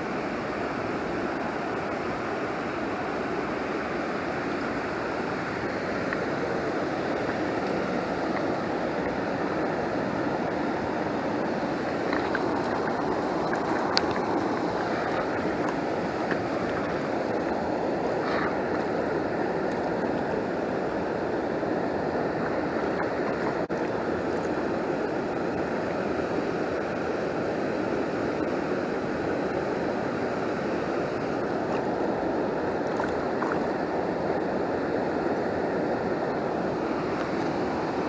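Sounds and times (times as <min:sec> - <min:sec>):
small stream rushing: 0:00.0 - 0:38.0.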